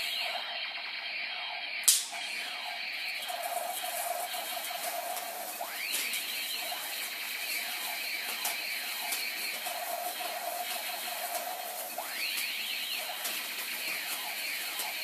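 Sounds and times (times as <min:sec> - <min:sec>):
toy firework whistling: 0:00.0 - 0:01.2, 0:01.8 - 0:15.0
crackling pops: 0:00.0 - 0:15.0.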